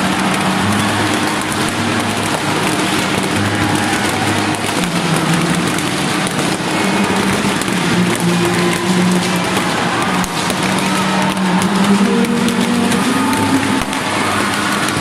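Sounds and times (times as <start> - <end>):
crackling and popping: 0.0 - 15.0
large crowd roaring: 0.0 - 15.0
low steady tones: 0.0 - 15.0.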